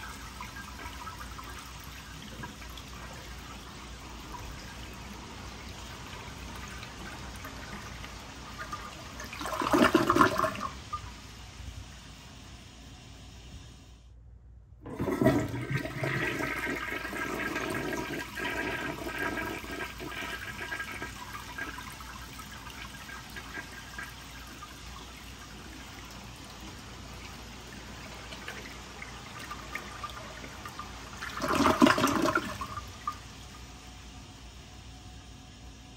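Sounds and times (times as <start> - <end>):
gurgling water: 0.0 - 12.4, 14.8 - 35.9
toilet flushing: 0.0 - 13.6, 14.8 - 35.9.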